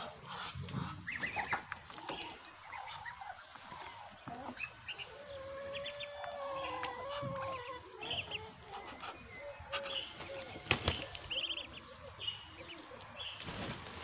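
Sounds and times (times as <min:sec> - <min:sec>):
ducklings peeping: 0:00.0 - 0:13.5
farm bird calling: 0:00.0 - 0:14.0.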